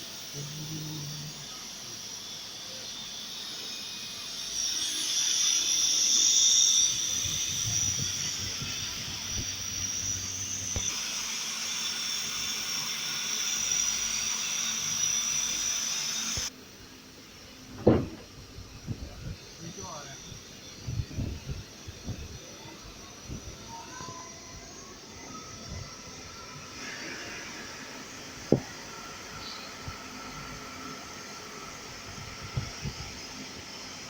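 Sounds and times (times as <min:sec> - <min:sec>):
grinding wheel hissing: 0:00.0 - 0:16.6, 0:17.3 - 0:34.0.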